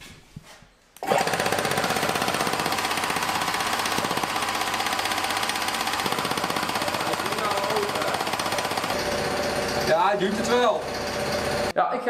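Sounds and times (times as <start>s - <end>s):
piston air compressor pounding: 1.0s - 11.7s.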